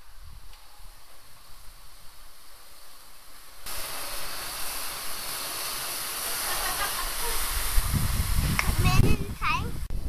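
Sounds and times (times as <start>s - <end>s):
steam locomotive venting steam: 0.0s - 9.9s.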